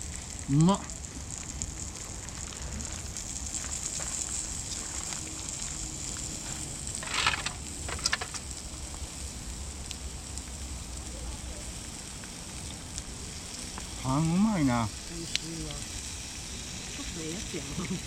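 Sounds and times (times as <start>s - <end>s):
campfire crackling: 0.0s - 18.0s
rustle: 0.0s - 18.0s.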